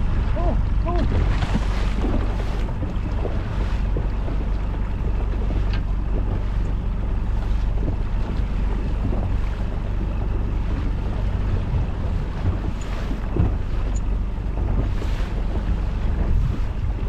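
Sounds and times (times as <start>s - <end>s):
inflatable boat running on water: 0.0s - 17.0s
wind on microphone: 0.0s - 17.0s.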